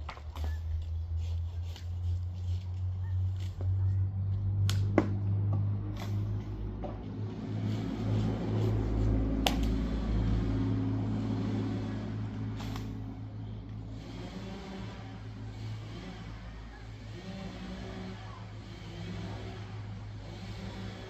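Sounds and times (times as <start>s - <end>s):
engine running at low speed: 0.0s - 21.0s.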